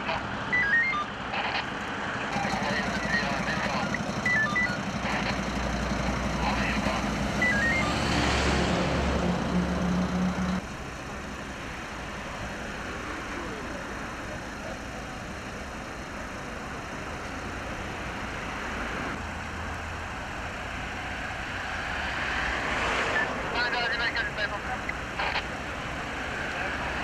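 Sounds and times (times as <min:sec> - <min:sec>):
diesel engine humming: 0:00.0 - 0:27.0
road traffic hiss: 0:04.8 - 0:27.0.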